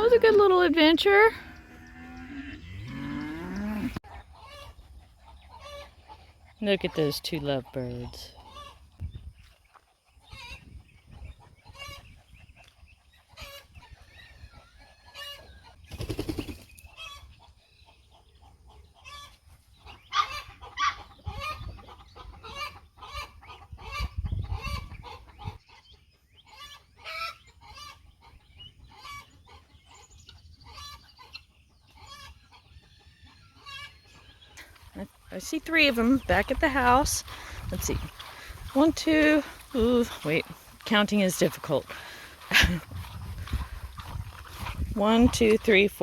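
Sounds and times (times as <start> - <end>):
poultry clucking: 0.0 - 15.8, 16.4 - 46.0.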